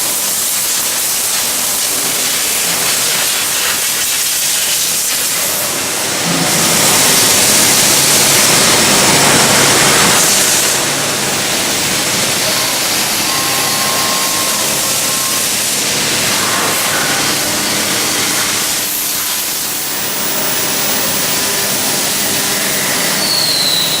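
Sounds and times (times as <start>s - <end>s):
factory machinery hissing: 0.0s - 24.0s.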